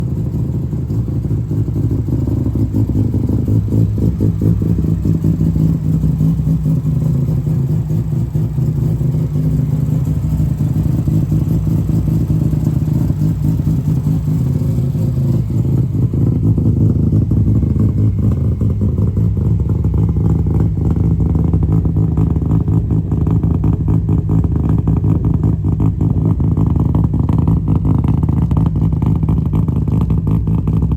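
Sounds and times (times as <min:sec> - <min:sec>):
car engine idling roughly: 0:00.0 - 0:30.9.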